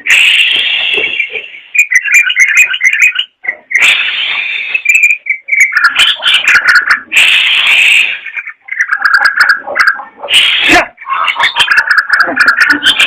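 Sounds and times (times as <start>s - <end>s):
bird harsh rasping chatters: 0.0s - 13.0s.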